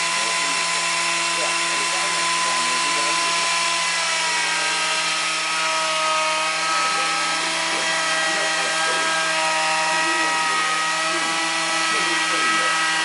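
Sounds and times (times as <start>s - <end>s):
wood lathe motor whine: 0.0s - 13.0s.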